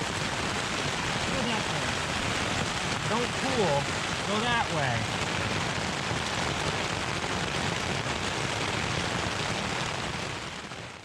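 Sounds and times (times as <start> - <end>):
heavy rain on a tent: 0.0 - 11.0.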